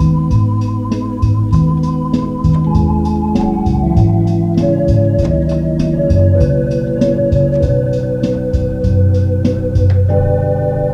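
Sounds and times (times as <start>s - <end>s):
bass line: 0.0s - 10.9s
organ chords: 0.0s - 10.9s.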